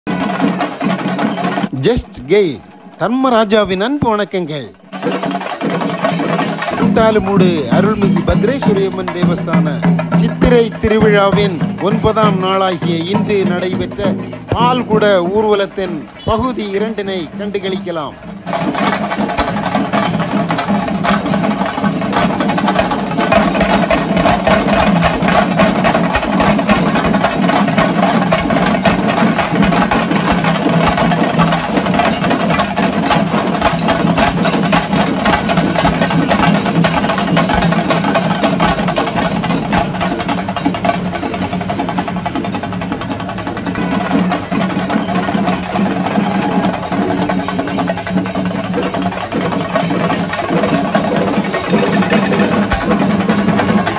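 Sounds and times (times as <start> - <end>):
fast continuous drumming: 0.1 - 53.9.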